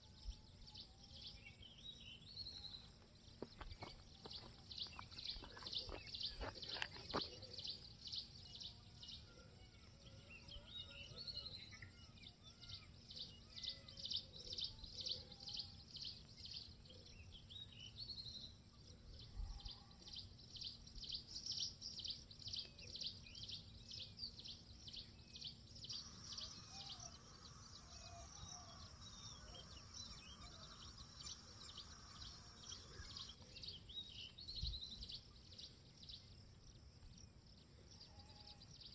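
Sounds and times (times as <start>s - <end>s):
lower bird chirps: 0.0s - 38.9s.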